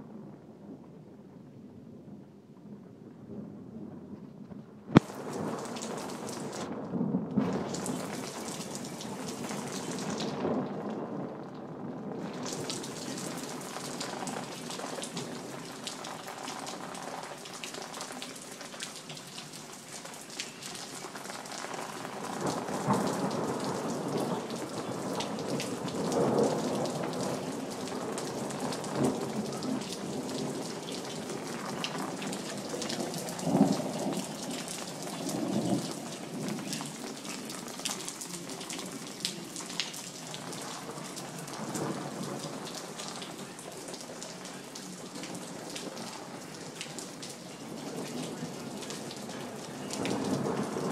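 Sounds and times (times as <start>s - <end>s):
thunder rumbling: 0.0s - 50.9s
heavy rain on hard surfaces: 2.3s - 50.9s.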